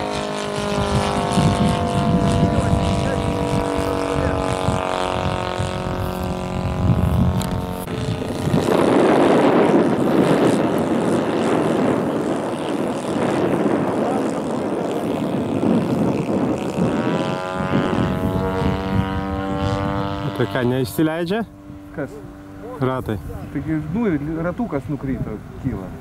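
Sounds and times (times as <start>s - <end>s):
model plane engine: 0.0s - 26.0s
rough rushing noise: 0.0s - 26.0s.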